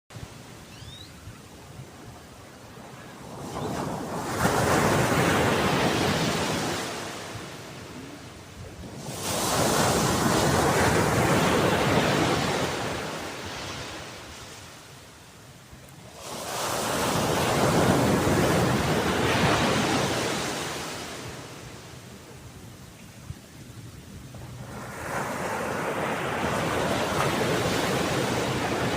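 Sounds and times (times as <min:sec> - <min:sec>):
sea waves washing ashore: 0:00.1 - 0:28.9.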